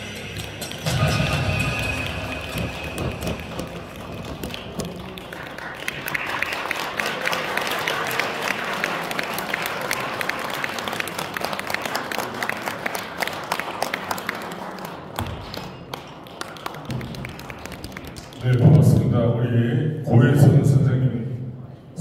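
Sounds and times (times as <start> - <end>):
audience applauding: 0.8 - 18.8.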